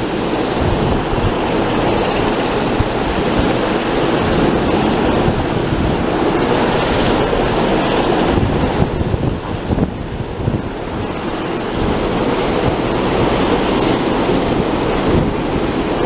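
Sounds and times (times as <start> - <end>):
open sea rushing: 0.0 - 16.0
wind buffeting microphone: 0.0 - 16.0.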